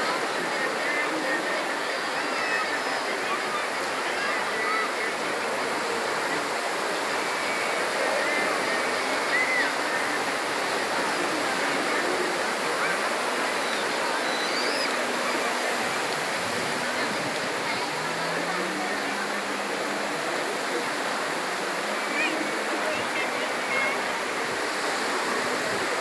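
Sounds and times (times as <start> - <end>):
sea surf on a beach: 0.0 - 26.0.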